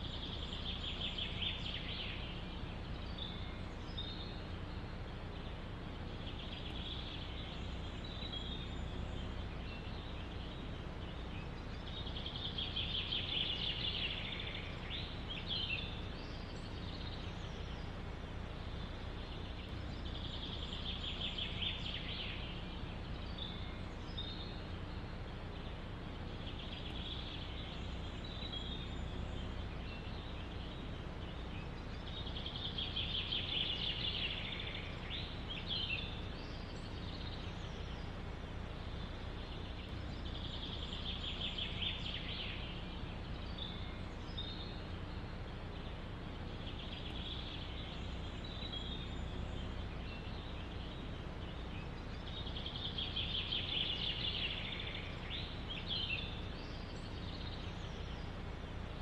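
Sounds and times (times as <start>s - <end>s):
songbird trilling: 0.0s - 59.0s
wind in trees: 0.0s - 59.0s.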